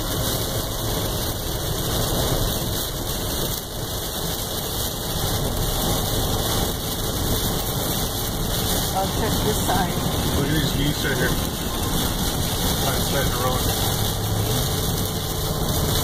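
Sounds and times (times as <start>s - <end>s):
heavy rain drumming on windshield: 0.0s - 16.0s
truck driving on wet road: 0.0s - 16.0s.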